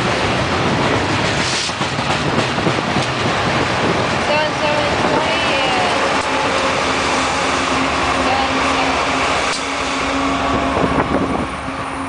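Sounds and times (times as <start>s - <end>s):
locomotive engine drone: 0.0s - 12.0s
wheel and rail noise: 0.0s - 12.0s.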